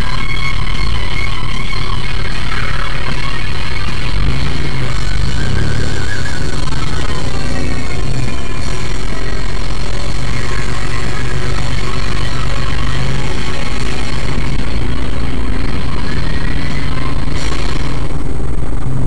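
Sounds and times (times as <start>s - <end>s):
faint whine rising in pitch: 0.0s - 19.0s
off-road vehicle engine running: 0.0s - 19.0s.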